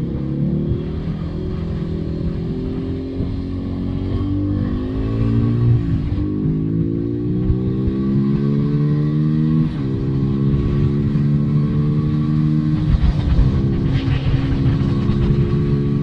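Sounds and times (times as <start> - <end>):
motorcycle engine revving through gears: 0.0 - 16.0.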